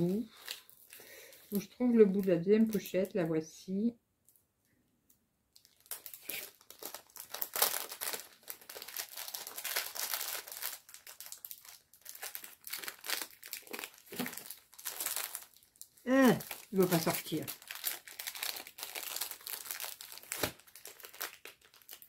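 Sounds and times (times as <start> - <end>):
plastic pouch crinkling: 0.1 - 3.0, 5.6 - 22.0.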